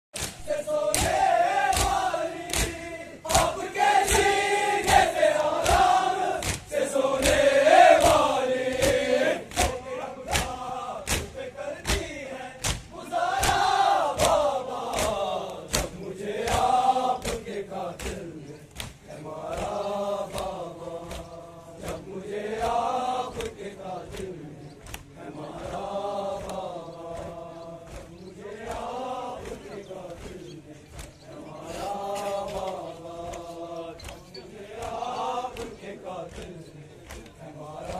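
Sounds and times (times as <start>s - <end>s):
men chanting a lament: 0.2s - 37.9s
rhythmic chest-beating slaps: 0.2s - 37.9s.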